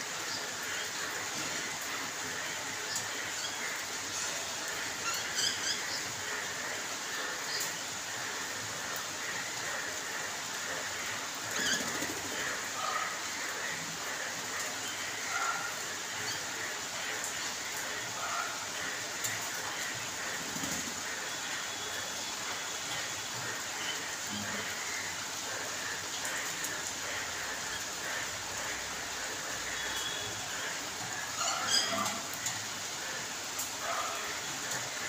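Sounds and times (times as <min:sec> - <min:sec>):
rain on pavement and water: 0:00.0 - 0:35.0.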